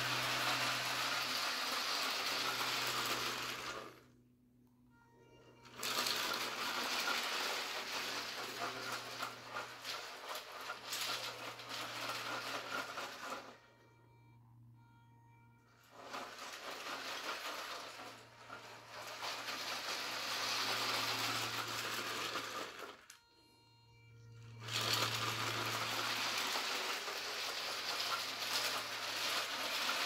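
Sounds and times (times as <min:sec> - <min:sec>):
wheels rattling over rails: 0:00.0 - 0:04.0, 0:05.6 - 0:13.6, 0:15.8 - 0:23.1, 0:24.6 - 0:30.0
model train motor whirring: 0:00.0 - 0:04.1, 0:05.7 - 0:13.6, 0:16.0 - 0:23.2, 0:24.6 - 0:30.0.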